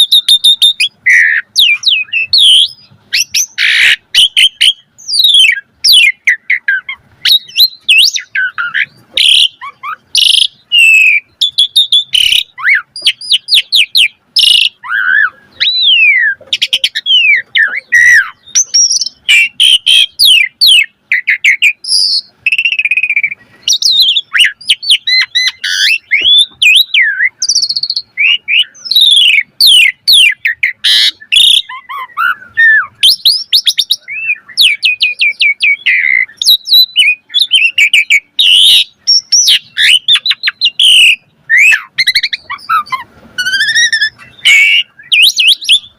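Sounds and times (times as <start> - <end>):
starling singing: 0.0 - 45.9.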